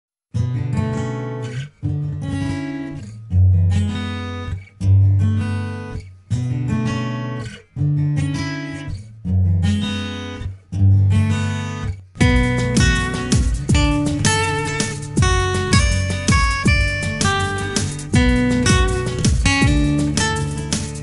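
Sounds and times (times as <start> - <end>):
strummed acoustic guitar chords: 0.3 - 21.0.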